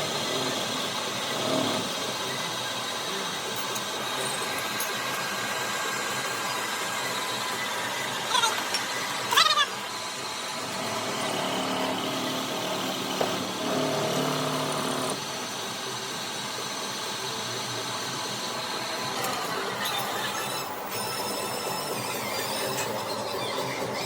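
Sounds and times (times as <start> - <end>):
workshop machinery running: 0.0 - 24.0.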